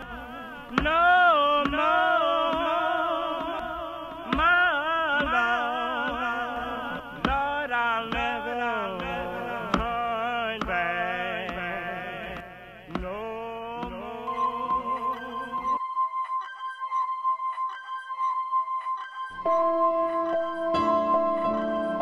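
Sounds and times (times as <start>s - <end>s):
person singing with vibrato: 0.0s - 22.0s.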